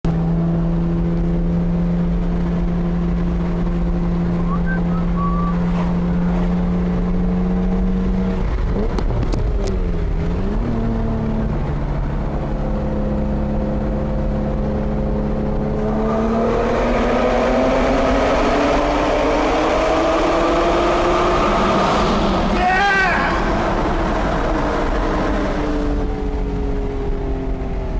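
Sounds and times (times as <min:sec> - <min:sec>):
car engine revving in a tunnel: 0:00.1 - 0:27.9.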